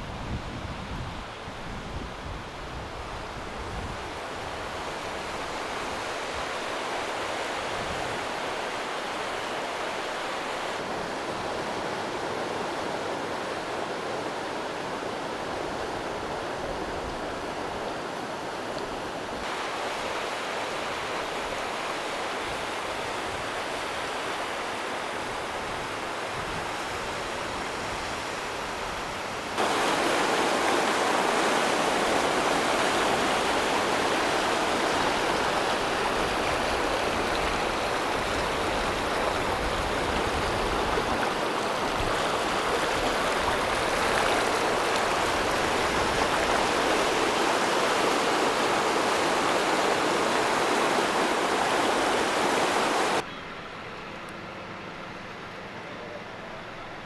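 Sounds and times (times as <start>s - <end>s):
river rushing over boulders: 0.0s - 53.2s.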